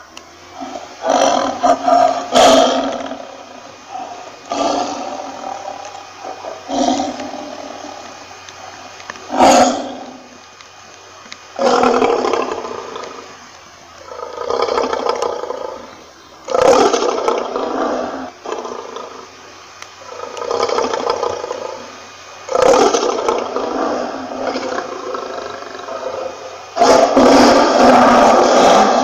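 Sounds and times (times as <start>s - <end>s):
lion roaring: 0.4s - 10.4s, 11.6s - 13.3s, 14.0s - 15.9s, 16.5s - 19.3s, 20.0s - 29.0s.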